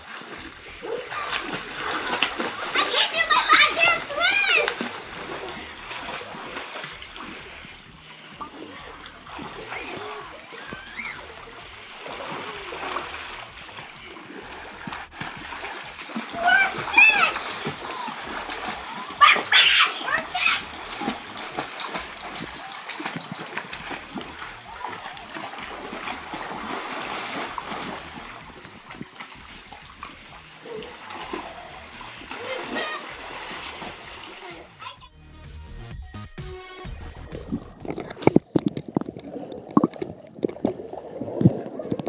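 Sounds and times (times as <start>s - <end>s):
pool water splashing: 0.0s - 42.0s.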